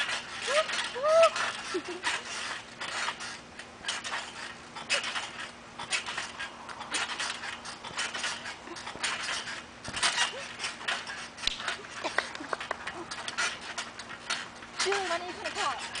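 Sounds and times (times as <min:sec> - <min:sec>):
trampoline springs creaking: 0:00.0 - 0:16.0.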